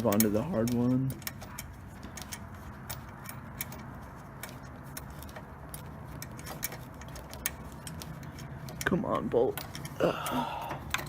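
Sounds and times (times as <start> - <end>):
ratchet wrench clicking: 0.0 - 11.0.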